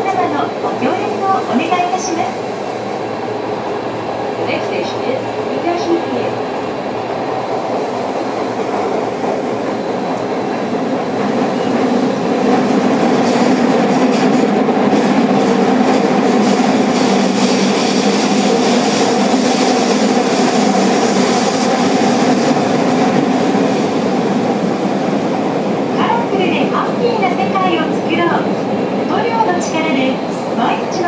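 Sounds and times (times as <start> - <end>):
train wheel and motor noise: 0.0 - 31.0.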